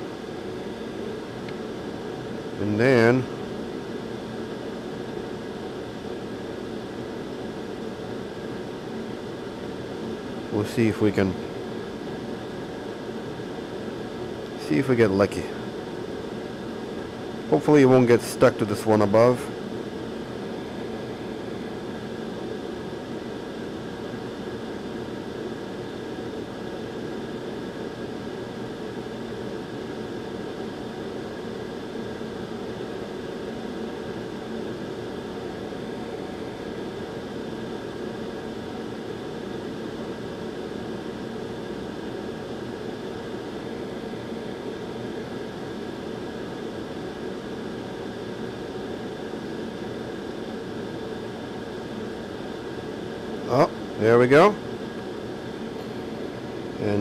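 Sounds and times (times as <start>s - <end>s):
faint steady whine: 0.0s - 57.0s.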